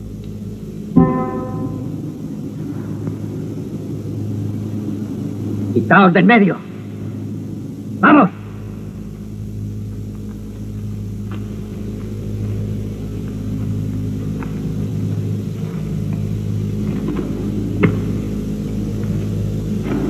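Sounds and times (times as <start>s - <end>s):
low drone: 0.0s - 20.0s.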